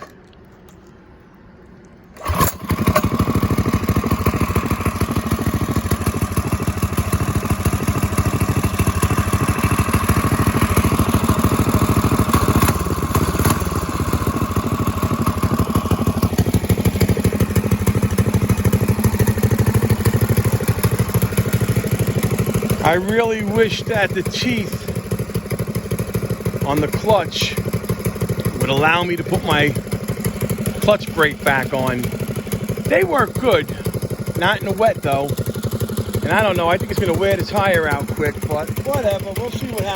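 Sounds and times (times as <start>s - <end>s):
small engine starting and running: 2.0s - 39.9s.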